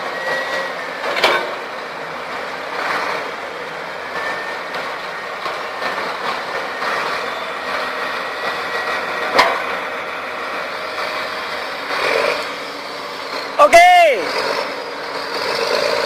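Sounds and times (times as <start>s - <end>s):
heavy diesel machines running: 0.0s - 16.0s.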